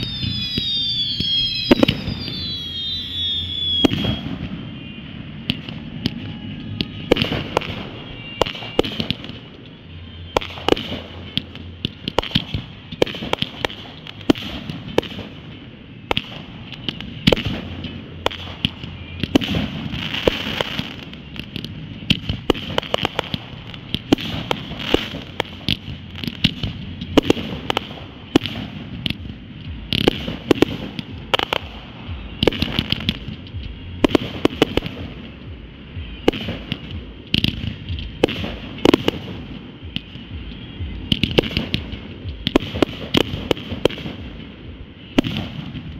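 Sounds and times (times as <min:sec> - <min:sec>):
fireworks bangs and pops: 0:00.0 - 0:45.9.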